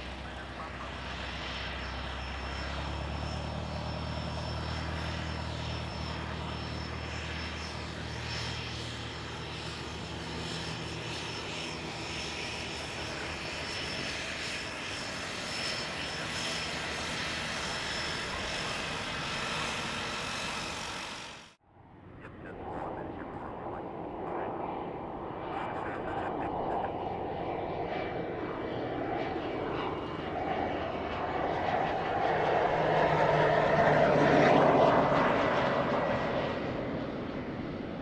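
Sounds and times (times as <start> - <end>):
propeller drone: 0.0 - 38.0
turbine whine: 0.0 - 38.0.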